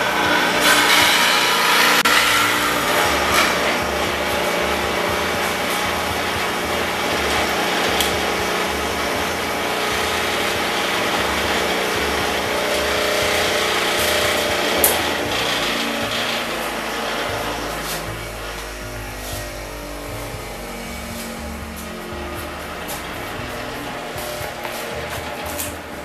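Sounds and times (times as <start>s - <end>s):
grinding machine motor hum: 0.0s - 26.0s
grinding of steel blade: 0.0s - 26.0s.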